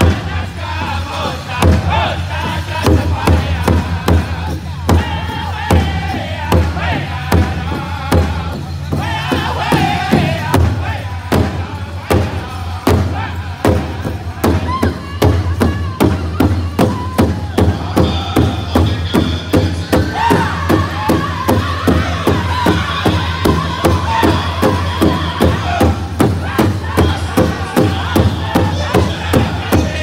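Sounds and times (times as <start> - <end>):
group singing high-pitched song: 0.0 - 30.0
big hide drum beating: 2.8 - 30.0.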